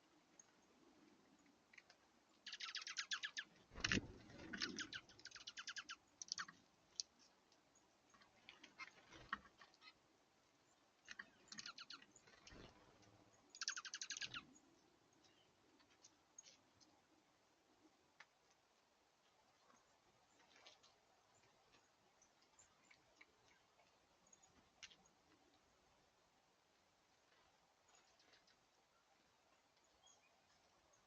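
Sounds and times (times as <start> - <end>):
small songbirds twittering: 0.0 - 17.2, 19.4 - 25.8, 27.8 - 31.0.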